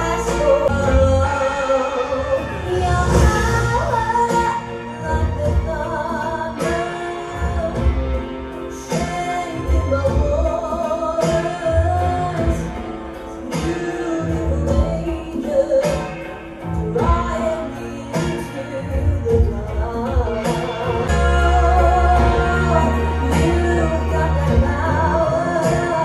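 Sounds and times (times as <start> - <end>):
woman singing: 0.0 - 26.0.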